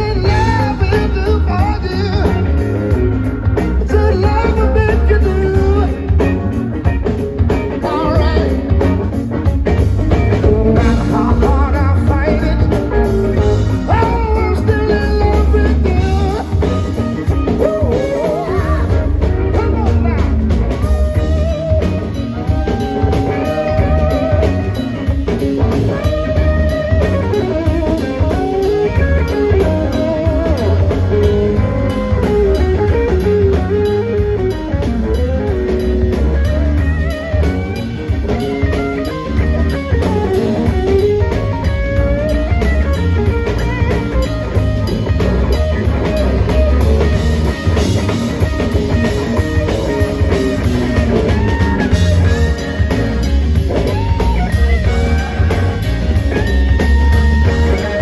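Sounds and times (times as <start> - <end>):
bass guitar: 0.0 - 58.0
drums: 0.0 - 58.0
electric guitar solo: 0.0 - 58.0.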